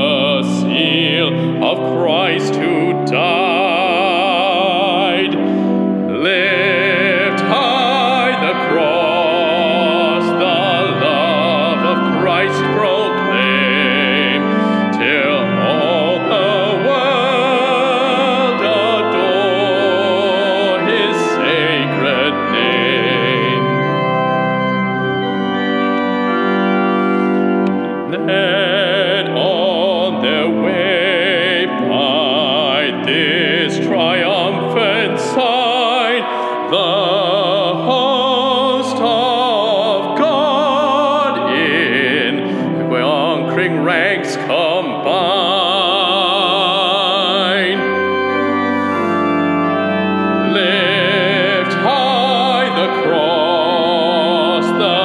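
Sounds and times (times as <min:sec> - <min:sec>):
man singing with vibrato: 0:00.0 - 0:24.6, 0:27.8 - 0:48.0, 0:50.4 - 0:55.0
keyboard accompaniment: 0:00.0 - 0:55.0.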